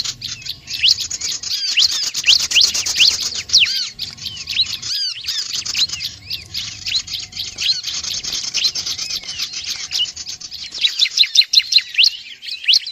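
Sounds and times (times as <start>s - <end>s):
small songbirds chirping rapidly: 0.0s - 12.9s.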